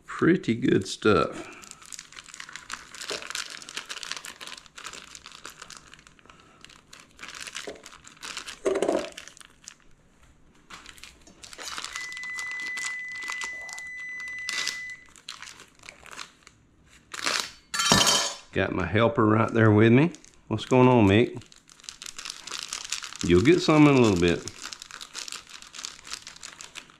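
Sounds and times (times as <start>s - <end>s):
plastic wrapper crinkling and tearing: 1.5s - 17.7s, 19.5s - 26.9s.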